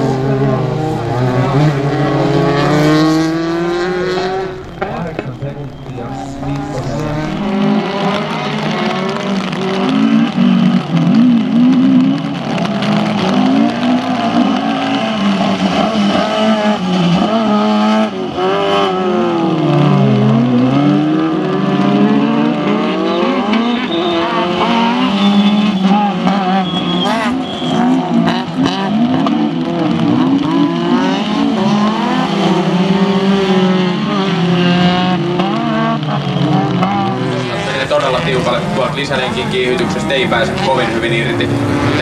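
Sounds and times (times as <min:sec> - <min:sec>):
race car engines revving: 0:00.0 - 0:42.0.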